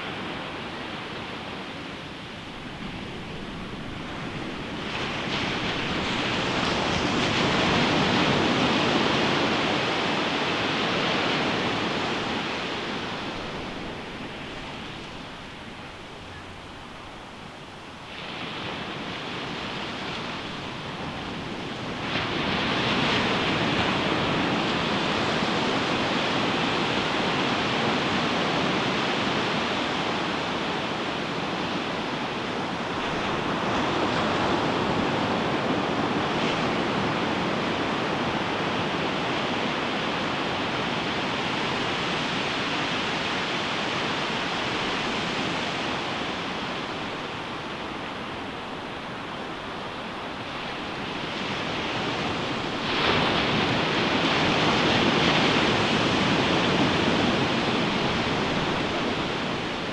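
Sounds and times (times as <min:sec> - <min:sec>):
ocean surf on sandy beach: 0:00.0 - 0:59.9.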